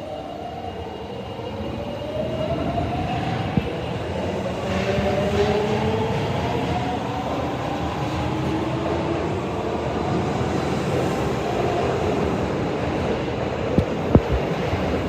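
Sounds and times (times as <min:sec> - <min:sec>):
subway train rail rumble: 0:00.0 - 0:15.0.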